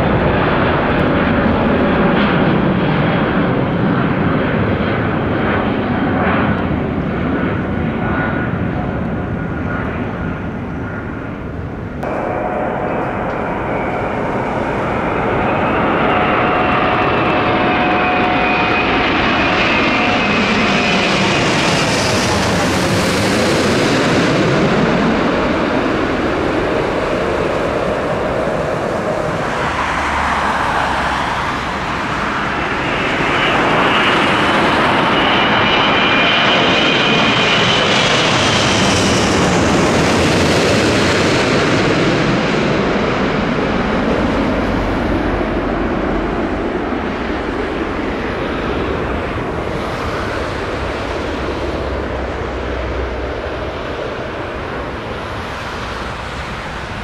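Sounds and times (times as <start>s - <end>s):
jet engines roaring: 0.0s - 57.0s
high fan whine: 8.6s - 57.0s.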